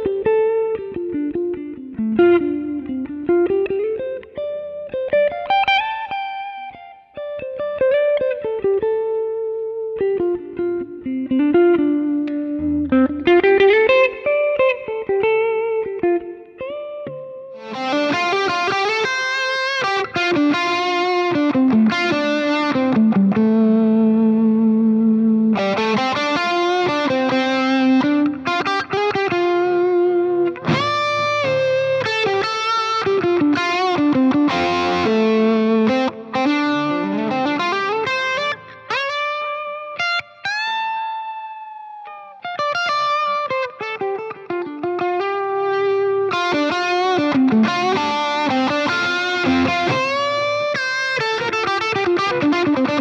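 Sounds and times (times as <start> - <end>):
electric guitar lead line: 0.0 - 53.0.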